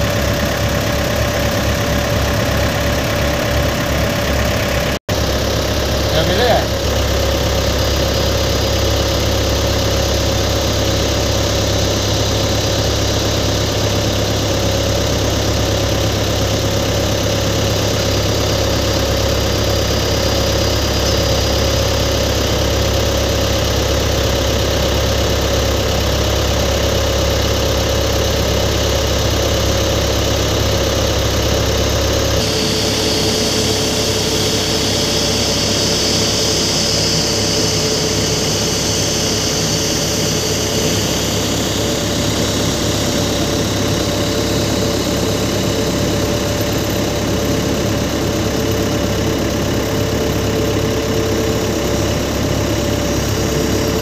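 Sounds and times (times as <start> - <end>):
engine drone with high whine: 0.0 - 54.0.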